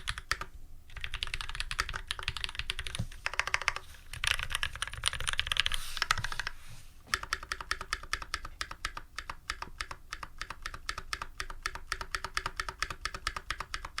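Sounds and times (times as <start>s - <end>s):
mechanical keyboard typing: 0.0s - 6.5s, 7.1s - 14.0s.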